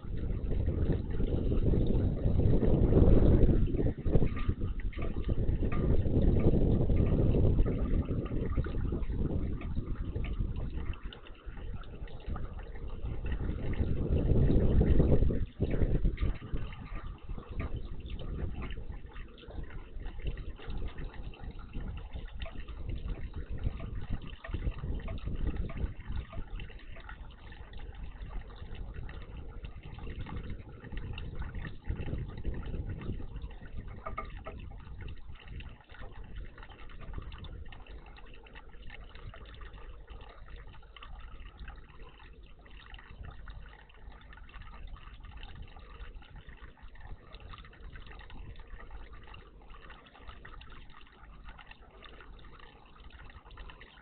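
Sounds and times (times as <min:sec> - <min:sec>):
water splashing and trickling: 0:00.0 - 0:54.0.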